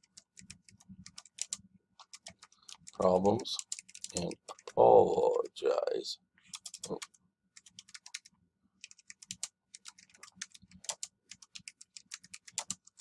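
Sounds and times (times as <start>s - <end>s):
typing on computer keyboard: 0.0s - 4.8s, 6.5s - 13.0s.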